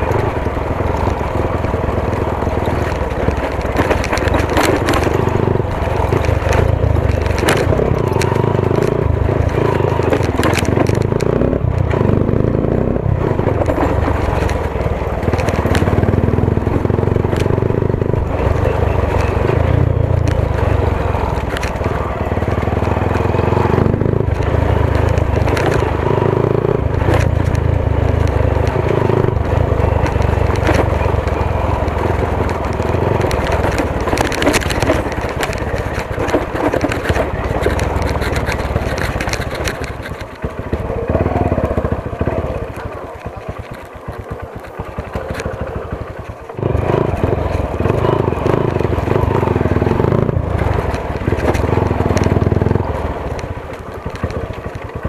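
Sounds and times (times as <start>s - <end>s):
knocks and crunches from stony ground: 0.0s - 55.0s
motorcycle engine running: 0.0s - 55.0s.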